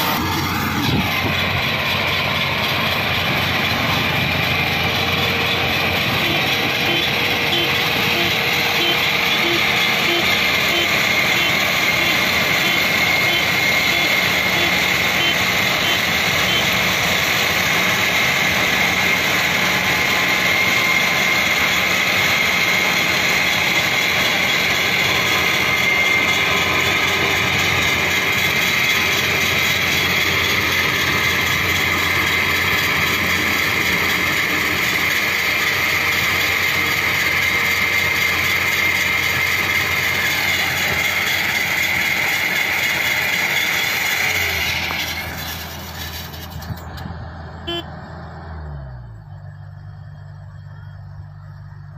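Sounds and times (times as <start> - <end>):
combine harvester running: 0.0 - 51.9
high machinery whine: 0.0 - 51.9.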